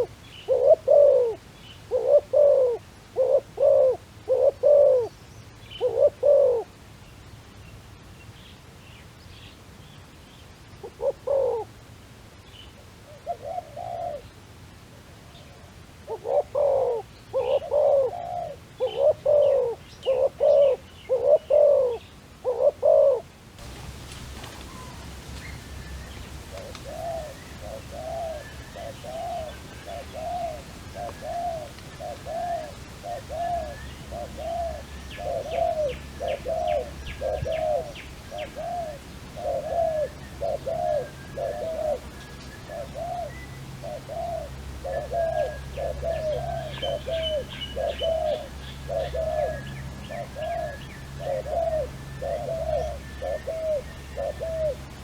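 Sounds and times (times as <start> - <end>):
dove cooing: 0.0 - 5.1, 5.8 - 6.7, 10.8 - 11.8, 13.1 - 14.3, 15.3 - 55.0.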